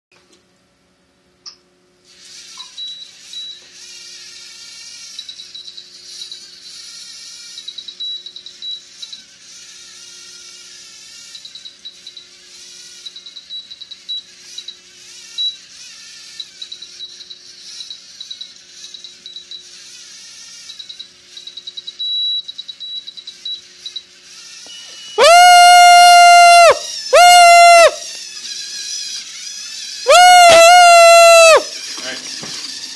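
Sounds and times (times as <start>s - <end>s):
toy robot motors whirring: 2.0s - 32.9s.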